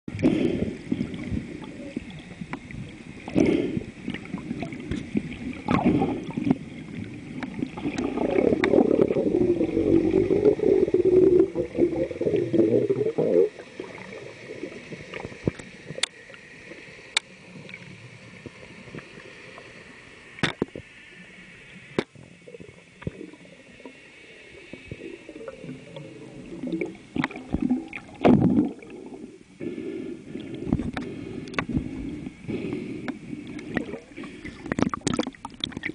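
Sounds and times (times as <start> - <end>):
muffled underwater gurgling: 0.1 - 19.1, 22.0 - 35.9.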